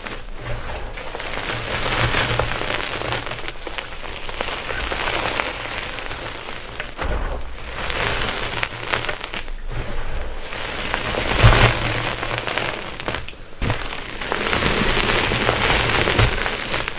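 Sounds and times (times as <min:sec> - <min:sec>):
chalk crushing and crackling: 0:00.0 - 0:16.9.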